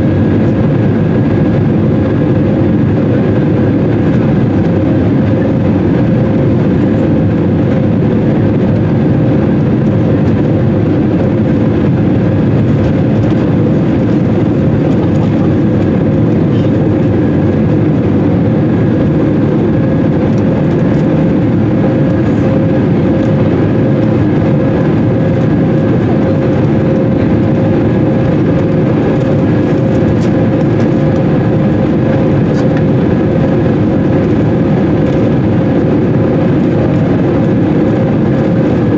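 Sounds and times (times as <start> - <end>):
airplane cabin engine noise: 0.0 - 38.9.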